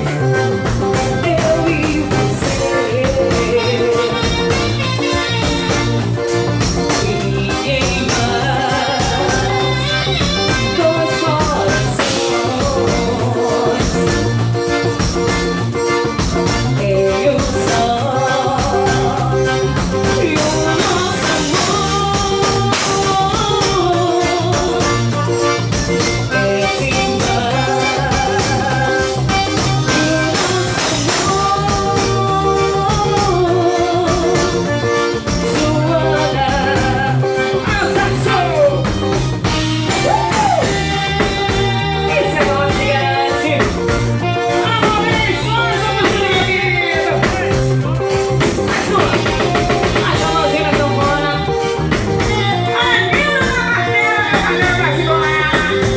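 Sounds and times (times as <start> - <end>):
woman singing through microphone: 0.0 - 15.2, 16.4 - 55.9
band playing: 0.0 - 55.9
piano accordion: 0.0 - 55.9.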